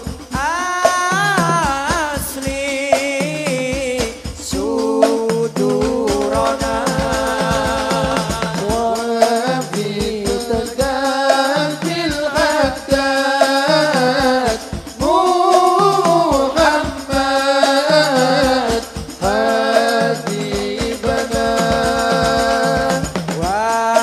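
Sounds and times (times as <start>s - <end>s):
lead voice on a microphone: 0.0s - 24.0s
men chanting in unison: 0.0s - 24.0s
steady percussion beat: 0.0s - 24.0s.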